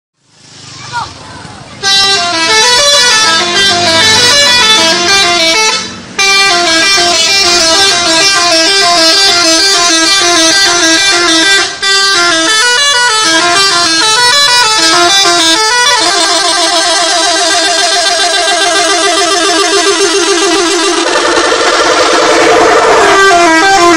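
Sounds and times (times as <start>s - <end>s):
bus multi-tone horn tune: 1.8s - 23.9s.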